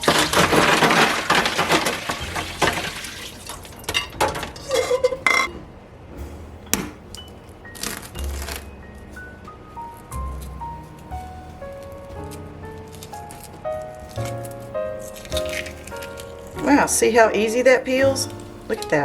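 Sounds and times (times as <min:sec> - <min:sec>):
soft background music: 0:02.2 - 0:03.8, 0:05.3 - 0:19.0.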